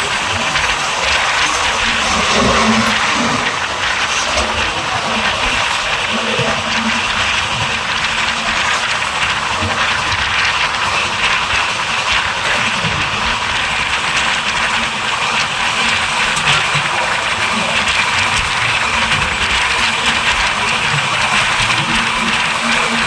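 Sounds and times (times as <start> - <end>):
passenger train running: 0.0 - 23.0.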